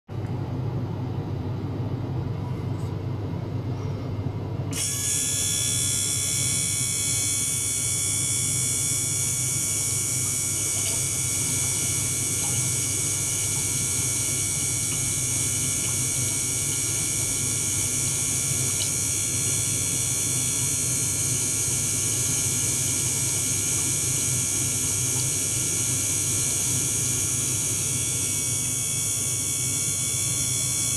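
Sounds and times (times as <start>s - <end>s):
pump humming in water: 0.2s - 30.9s
high-pitched whine: 4.7s - 30.9s.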